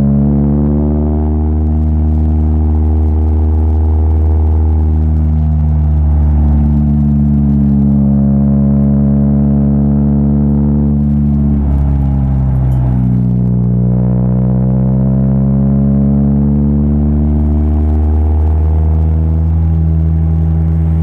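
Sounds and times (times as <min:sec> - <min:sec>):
car engine at speed: 0:00.0 - 0:21.0.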